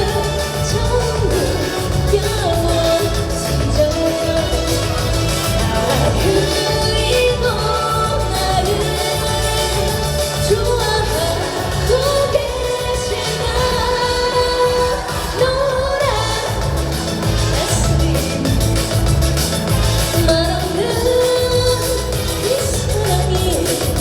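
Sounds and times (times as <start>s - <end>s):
amplified backing track: 0.0s - 24.0s
woman singing: 0.0s - 24.0s.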